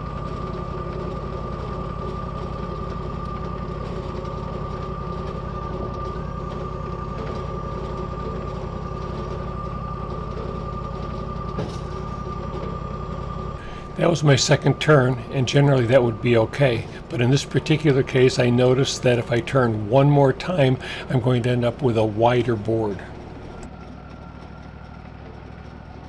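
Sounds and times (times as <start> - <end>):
constant whine: 0.0 - 26.0
sawmill engine running: 0.0 - 26.0.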